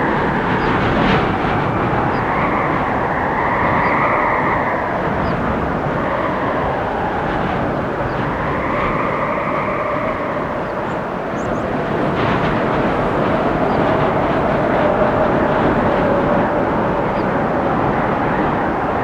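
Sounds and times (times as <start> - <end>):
strong wind gusting through trees: 0.0 - 19.0.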